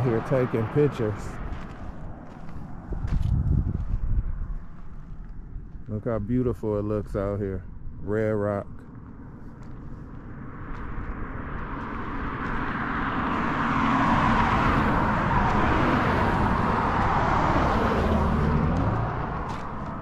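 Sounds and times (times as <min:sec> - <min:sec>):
cars passing on highway: 0:00.0 - 0:06.8, 0:07.4 - 0:20.0
steady low rumble: 0:00.0 - 0:20.0.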